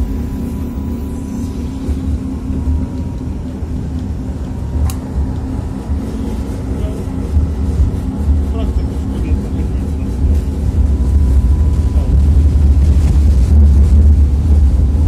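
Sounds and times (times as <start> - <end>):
constant low hum: 0.0 - 15.0
tram motors and wheels rumbling: 0.0 - 15.0.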